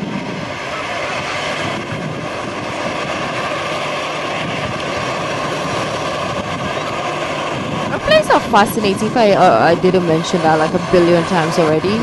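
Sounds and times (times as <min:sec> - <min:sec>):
high turbine whine: 0:00.0 - 0:12.0
jet engines running: 0:00.0 - 0:12.0.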